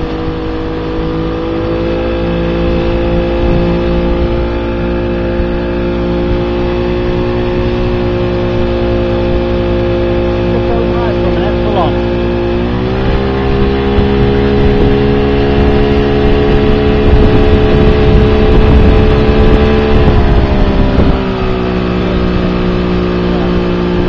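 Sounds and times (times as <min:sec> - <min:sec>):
outboard motor running: 0:00.0 - 0:24.0
wake rushing: 0:00.0 - 0:24.0.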